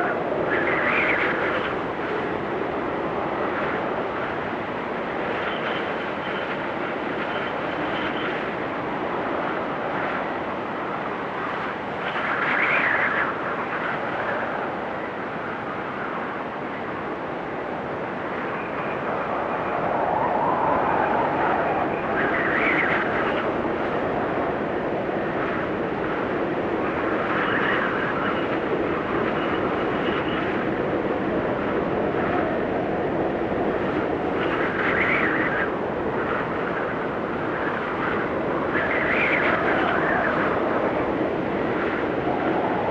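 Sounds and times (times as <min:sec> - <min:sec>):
faint wind whistle: 0:00.0 - 0:42.9
wind blowing: 0:00.0 - 0:42.9.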